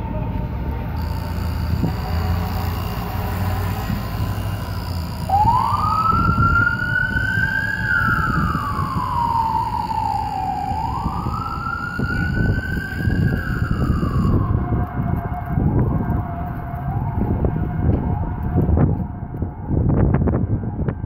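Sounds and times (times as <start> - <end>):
low street and engine rumble: 0.0 - 21.0
siren wailing: 0.8 - 21.0.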